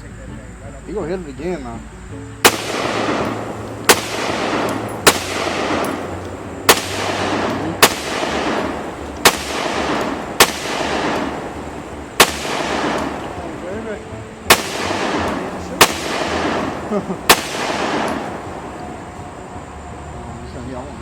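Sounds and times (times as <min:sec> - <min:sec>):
gunshots with echo: 0:02.4 - 0:19.3.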